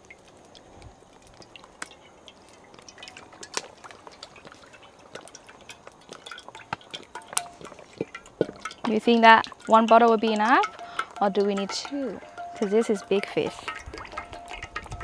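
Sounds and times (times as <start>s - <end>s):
oil ticking and popping in wok: 0.0s - 15.0s.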